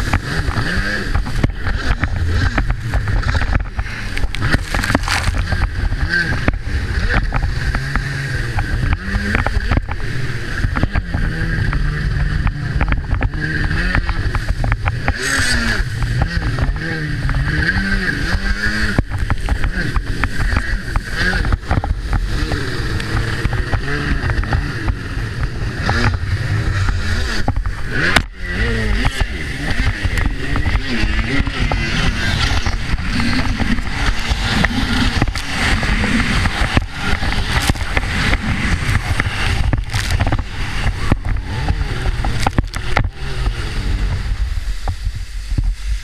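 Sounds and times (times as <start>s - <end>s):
jet ski engine revving: 0.0s - 45.4s
rushing wind and water: 0.0s - 46.0s.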